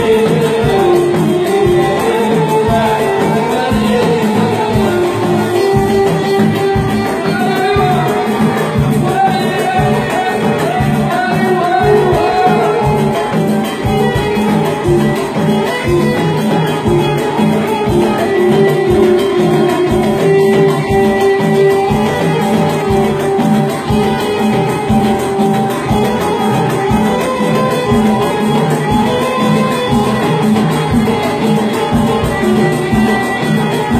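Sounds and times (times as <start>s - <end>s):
drum kit beat: 0.0s - 33.9s
keyboard: 0.0s - 33.9s
plucked lute: 0.0s - 33.9s
violins bowed: 0.0s - 33.9s.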